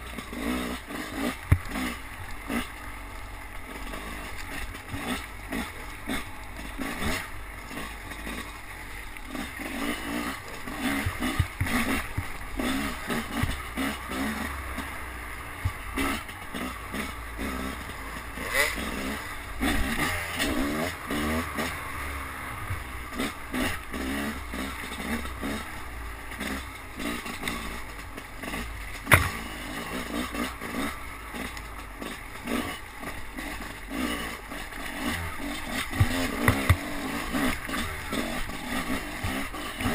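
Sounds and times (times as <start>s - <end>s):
bike rattling and knocking: 0.0s - 39.9s
motorcycle engine revving: 0.0s - 39.9s.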